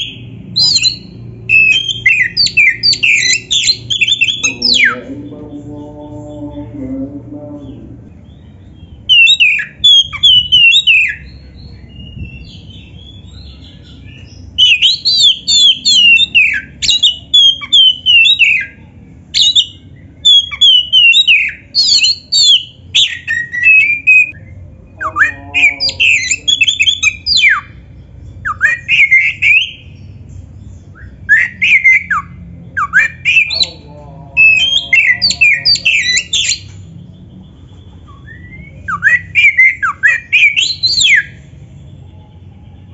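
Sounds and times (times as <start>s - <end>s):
songbird singing whistles and trills: 0.0s - 5.1s, 8.2s - 18.8s, 19.4s - 33.8s, 34.4s - 42.4s.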